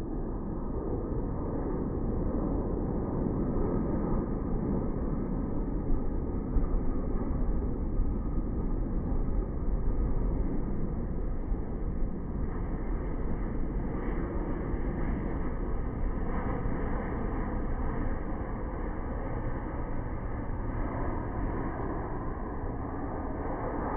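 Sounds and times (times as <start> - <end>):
jet airliner rumble: 0.0 - 23.9.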